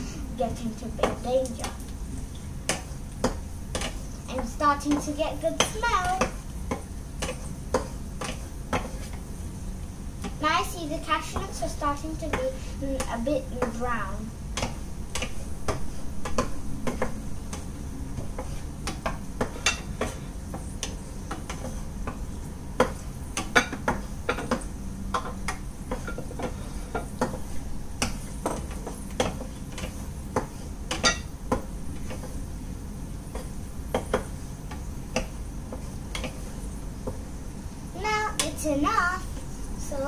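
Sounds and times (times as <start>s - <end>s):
low steady hum: 0.0s - 40.0s
spatula scraping and knocking pan: 0.4s - 9.5s, 10.2s - 32.5s, 33.2s - 37.4s.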